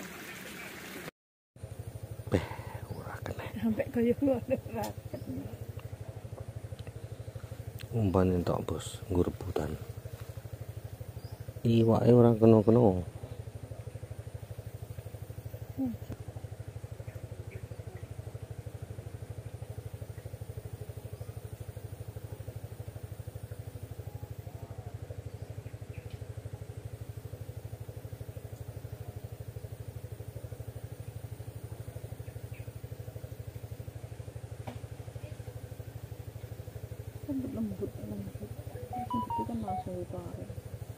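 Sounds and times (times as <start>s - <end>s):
faint high hum: 1.6s - 40.9s
small engine idling: 1.6s - 40.9s.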